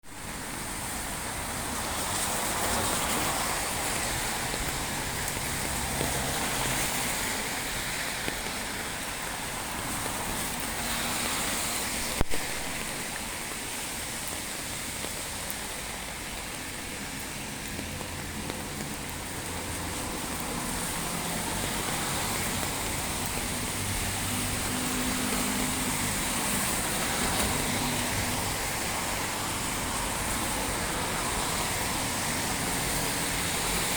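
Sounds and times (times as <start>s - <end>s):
heavy rain falling: 0.0s - 33.9s
passing road traffic: 0.2s - 33.9s.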